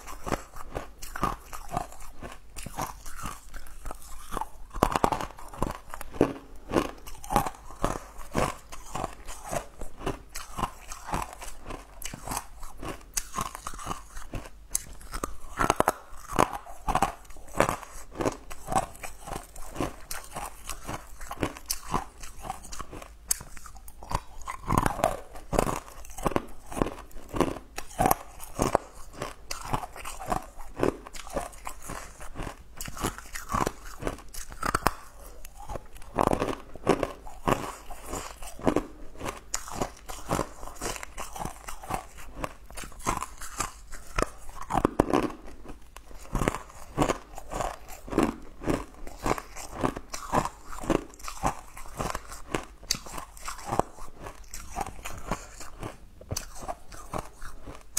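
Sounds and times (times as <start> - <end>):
crunching and chewing candy: 0.0 - 57.9.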